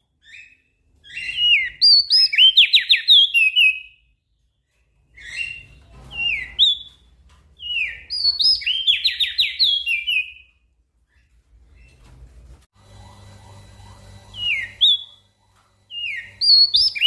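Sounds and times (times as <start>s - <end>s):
small songbird singing: 0.0s - 12.0s, 14.3s - 17.0s.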